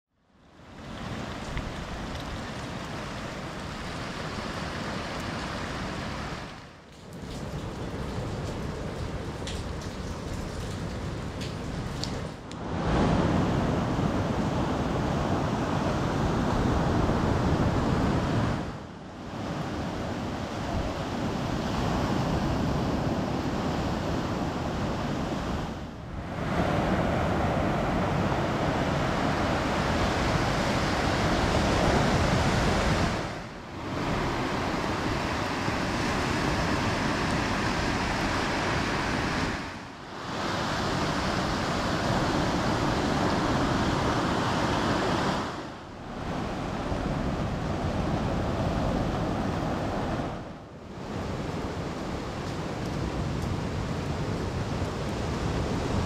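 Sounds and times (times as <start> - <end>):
sea surf breaking on a beach: 0.5 - 56.0.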